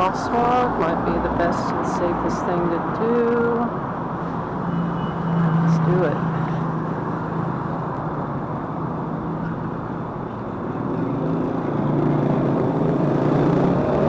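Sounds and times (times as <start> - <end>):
street traffic passing: 0.0 - 14.0.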